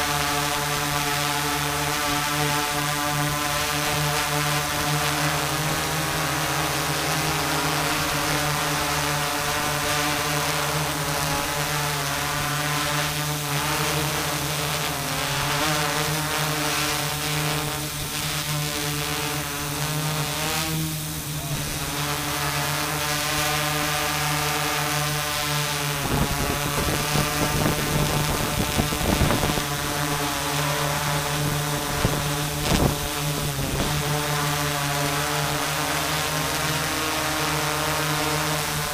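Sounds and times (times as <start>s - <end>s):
drone propellers buzzing: 0.0s - 38.9s.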